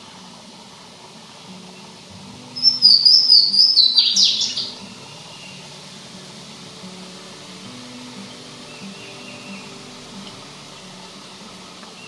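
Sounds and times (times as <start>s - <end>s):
bird singing whistled notes: 1.7s - 12.0s.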